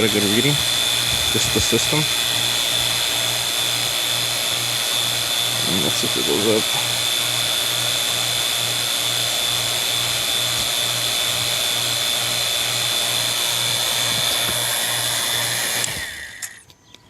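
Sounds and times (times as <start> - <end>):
vacuum pump whining: 0.0 - 16.7.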